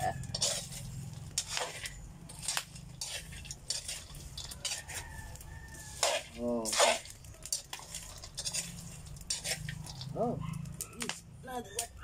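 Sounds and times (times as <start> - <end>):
spoon scraping beans in pan: 0.0 - 10.4.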